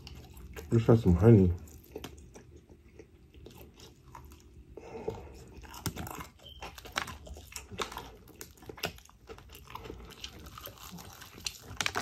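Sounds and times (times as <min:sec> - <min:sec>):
chewing crispy fried chicken: 0:00.0 - 0:12.0.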